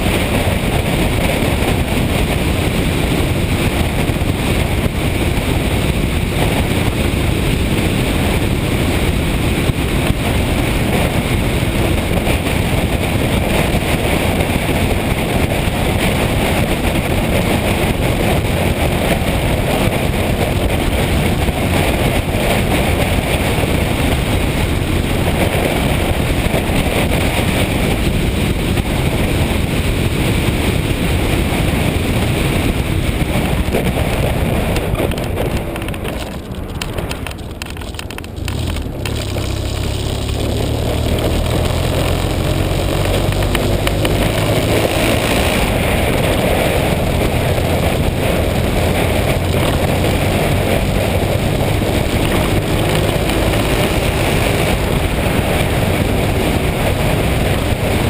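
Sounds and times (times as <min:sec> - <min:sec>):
motorcycle engine: 0:00.0 - 0:58.0
wind rush on microphone: 0:00.0 - 0:58.0.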